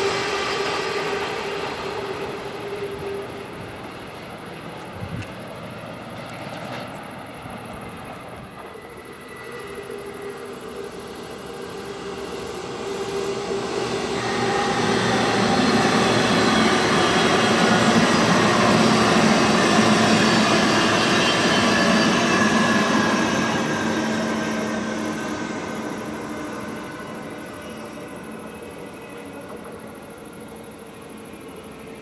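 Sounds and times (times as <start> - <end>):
train passing on track: 0.0 - 32.0.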